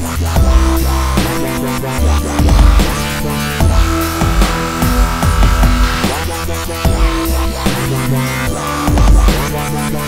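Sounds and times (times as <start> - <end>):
electronic dance music: 0.0 - 9.8.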